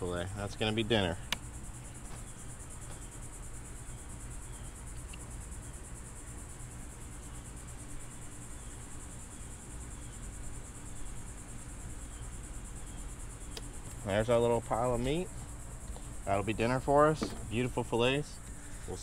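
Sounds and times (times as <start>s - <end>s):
insects trilling: 0.0s - 19.0s
low steady hum: 0.0s - 19.0s.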